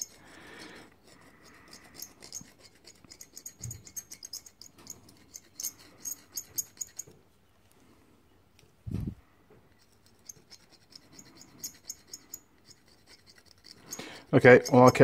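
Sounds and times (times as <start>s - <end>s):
metal scriber scratching in grooves: 0.0s - 7.2s, 9.7s - 15.0s.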